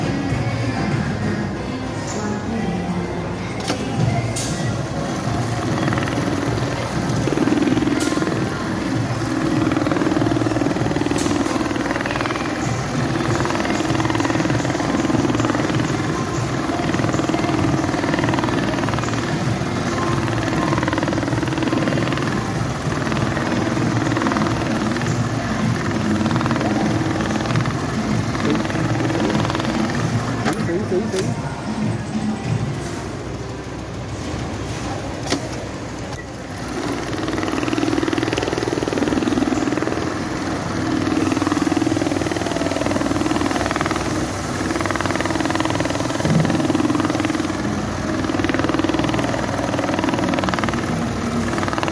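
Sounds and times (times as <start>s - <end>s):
stitching machines running: 0.0s - 51.9s.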